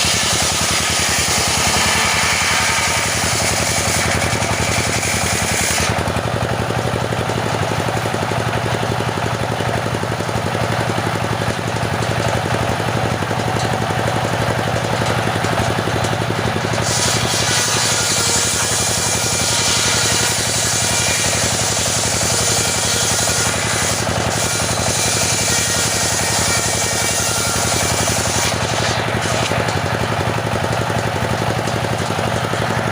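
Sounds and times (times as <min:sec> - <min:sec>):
chainsaw running at high speed: 0:00.0 - 0:32.9.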